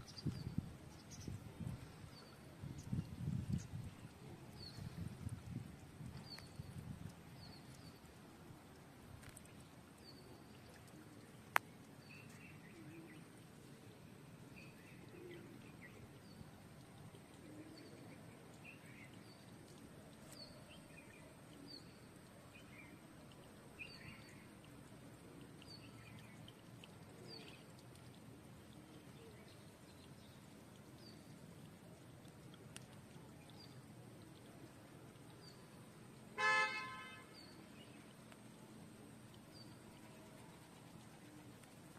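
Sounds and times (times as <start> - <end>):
faint birds chirping: 0.0 - 41.9.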